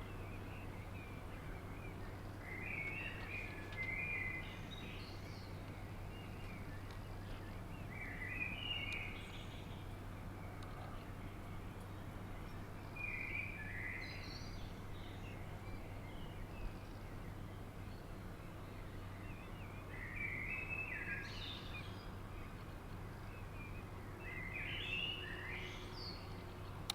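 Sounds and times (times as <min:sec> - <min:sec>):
bird chirping: 0:00.0 - 0:26.9
low rumble of wind: 0:00.0 - 0:26.9.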